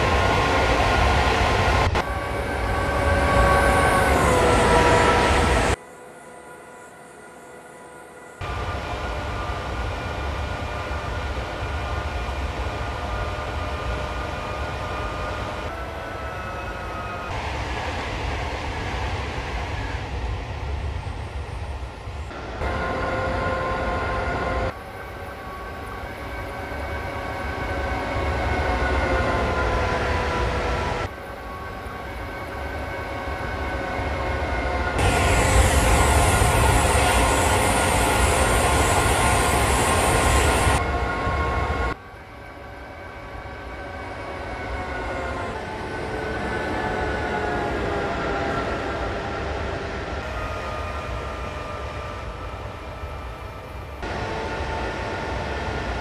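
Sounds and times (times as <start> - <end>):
train rumble with whine: 0.0 - 56.0.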